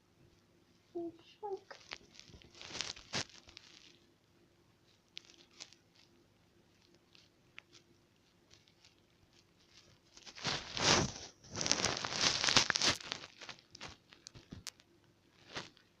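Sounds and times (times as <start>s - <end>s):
rustling and scraping: 1.4s - 4.1s, 4.8s - 16.0s.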